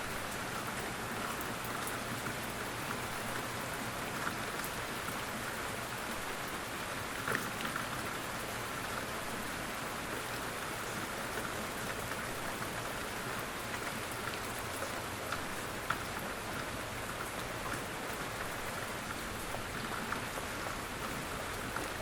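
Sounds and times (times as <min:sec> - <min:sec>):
rain pattering on a surface: 0:00.0 - 0:22.0.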